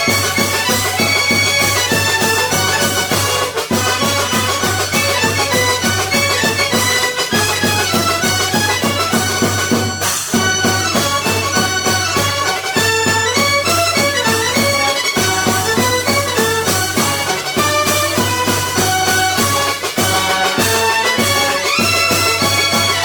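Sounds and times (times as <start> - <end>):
upbeat folk instrumental music: 0.0 - 23.0.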